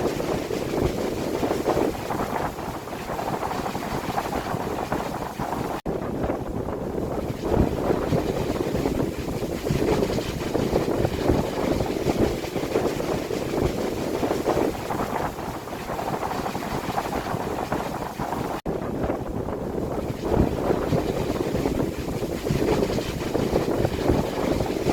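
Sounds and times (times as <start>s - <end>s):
strong wind gusting: 0.0s - 24.9s
wind buffeting microphone: 0.0s - 24.9s.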